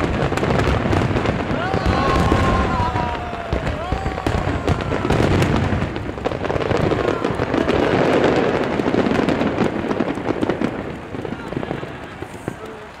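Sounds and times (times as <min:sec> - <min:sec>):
firework crackling: 0:00.0 - 0:13.0
low firework boom: 0:00.0 - 0:13.0.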